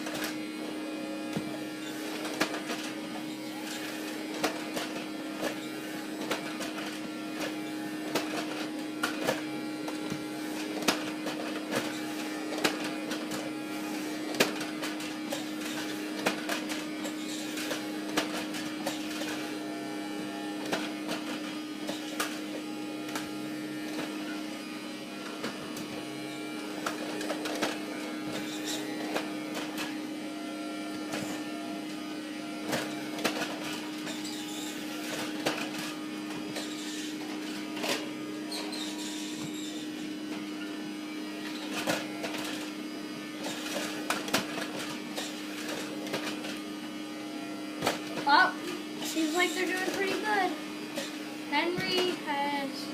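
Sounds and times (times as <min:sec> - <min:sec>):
vacuum cleaners running: 0:00.0 - 0:52.9.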